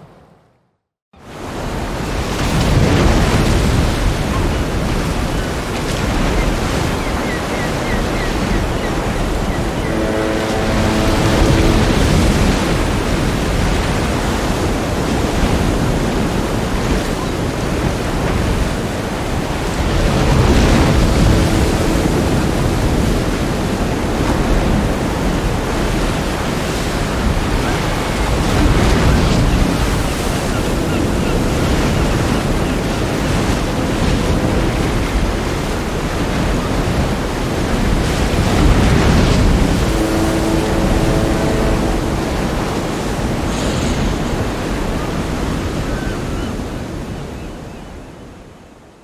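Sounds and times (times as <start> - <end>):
surf breaking on a beach: 1.2 - 48.5
wind rumbling on microphone: 1.5 - 48.3.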